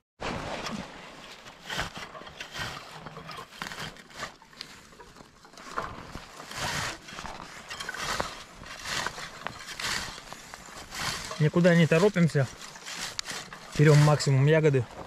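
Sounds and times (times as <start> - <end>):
comb raking through plants: 0.2 - 15.0.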